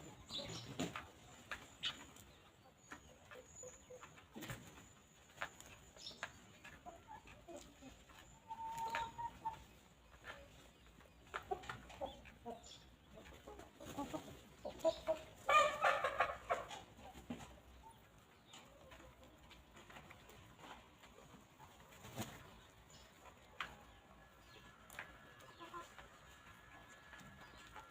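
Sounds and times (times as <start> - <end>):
hens clucking: 0.0 - 27.9.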